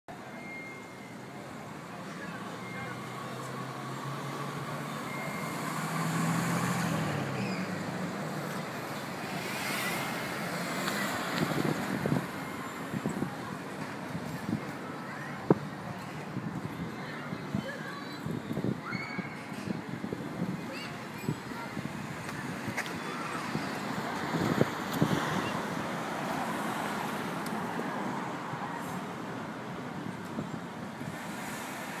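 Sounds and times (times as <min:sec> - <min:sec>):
city street traffic rumble: 0:00.1 - 0:32.0.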